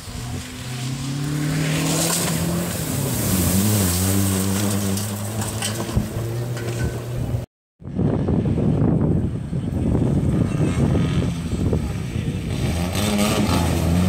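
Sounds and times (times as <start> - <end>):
rally car engine accelerating: 0.0 - 7.4, 10.0 - 14.0.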